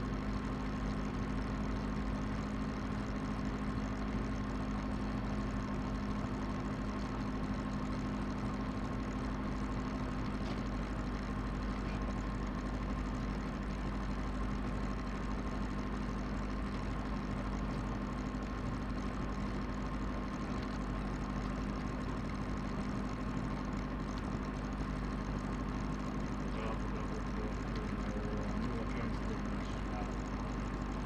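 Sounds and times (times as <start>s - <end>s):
airplane engine and propeller: 0.0s - 31.0s.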